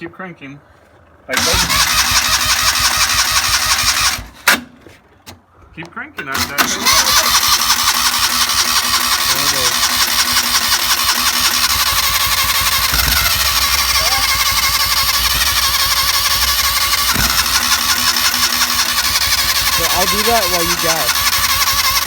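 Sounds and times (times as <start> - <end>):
electric starter cranking engine: 1.3 - 4.7, 6.2 - 22.0.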